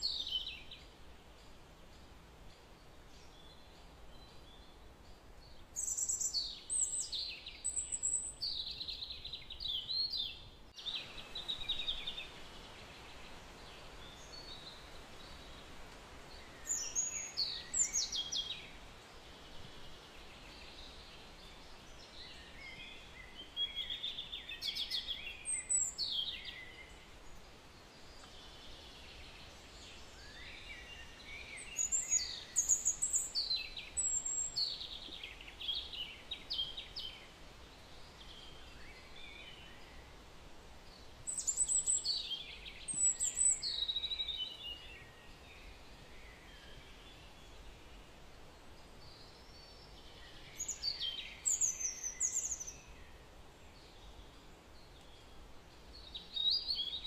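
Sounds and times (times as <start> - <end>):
birds singing: 0.0 - 57.0
faint steady hiss: 0.0 - 57.0.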